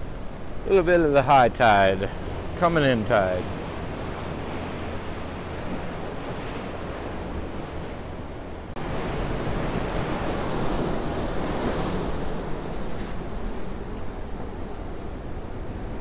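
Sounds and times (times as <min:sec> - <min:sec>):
ocean surf rushing over rocks: 0:00.0 - 0:16.0.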